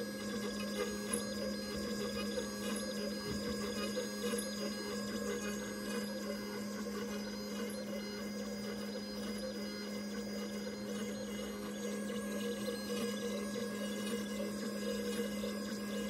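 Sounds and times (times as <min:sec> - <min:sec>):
cnc mill spindle cutting: 0:00.0 - 0:16.0.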